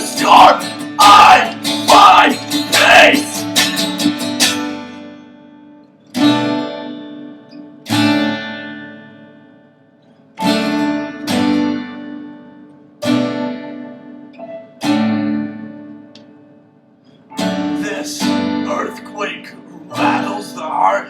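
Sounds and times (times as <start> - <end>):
acoustic guitar strums: 0.0 - 21.0.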